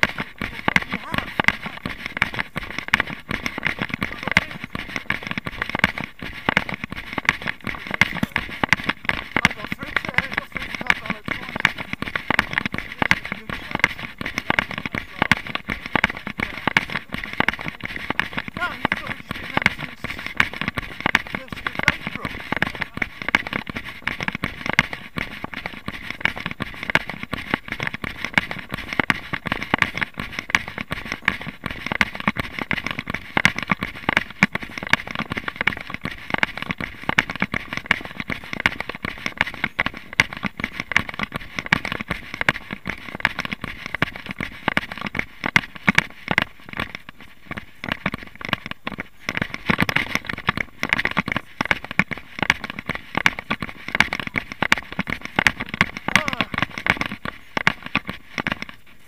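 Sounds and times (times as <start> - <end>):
camera rustling and knocking: 0.0 - 59.0
footfalls on dirt path: 0.0 - 59.0.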